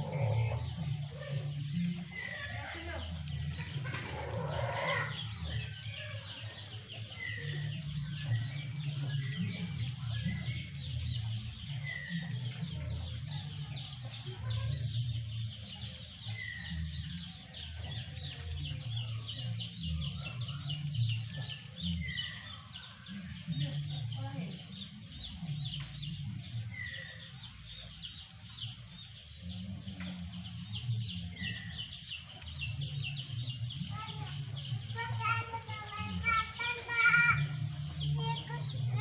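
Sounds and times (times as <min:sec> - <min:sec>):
chickens clucking: 0:00.0 - 0:39.0
dense chatter of high calls: 0:00.0 - 0:39.0.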